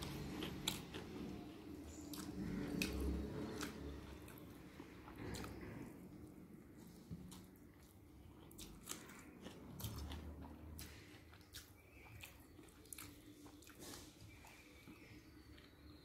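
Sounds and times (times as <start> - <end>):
close-up crunchy chewing: 0.0 - 16.0.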